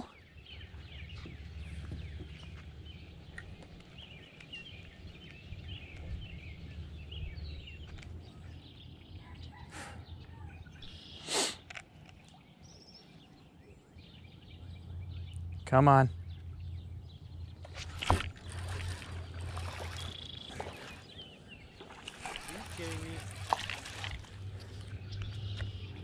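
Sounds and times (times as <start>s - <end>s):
small birds chirping: 0.0s - 26.0s
low steady rumble: 0.2s - 11.1s, 13.3s - 26.0s.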